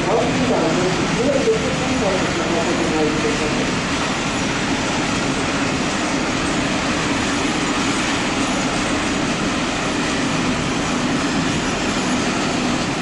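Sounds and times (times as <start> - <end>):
train running with low hum: 0.0 - 13.0.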